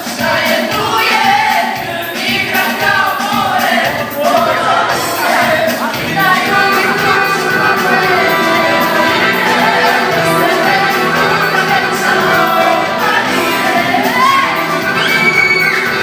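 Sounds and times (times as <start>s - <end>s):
people singing into microphones: 0.0s - 16.0s
keyboard playing: 0.3s - 16.0s.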